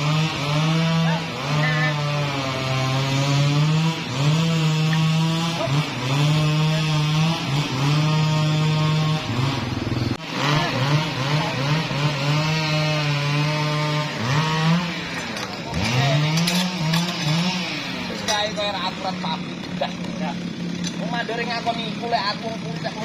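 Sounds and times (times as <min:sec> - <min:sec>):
sawmill saw cutting wood: 0:00.0 - 0:23.0.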